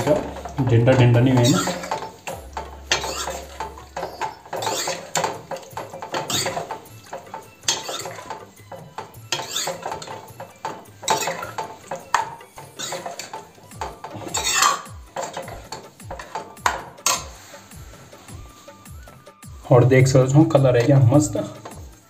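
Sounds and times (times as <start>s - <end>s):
ladle scraping iron pan: 0.0s - 22.0s.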